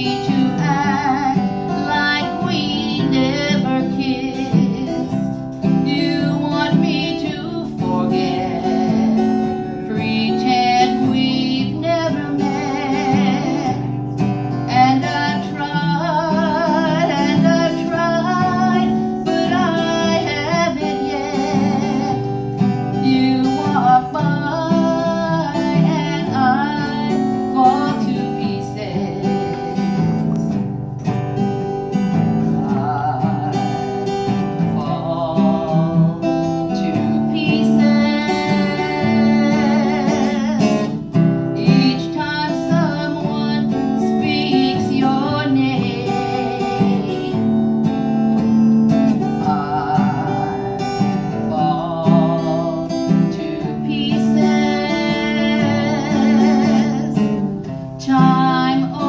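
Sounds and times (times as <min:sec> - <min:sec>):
woman singing with vibrato: 0:00.0 - 0:30.6, 0:31.9 - 0:59.0
strummed acoustic guitar: 0:00.0 - 0:59.0.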